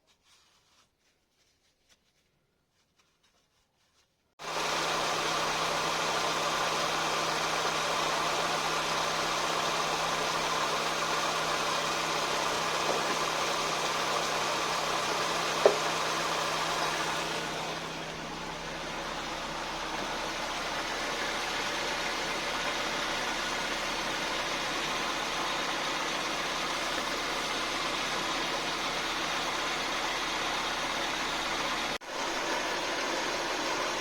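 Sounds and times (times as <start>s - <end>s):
car engine idling: 4.4s - 34.0s.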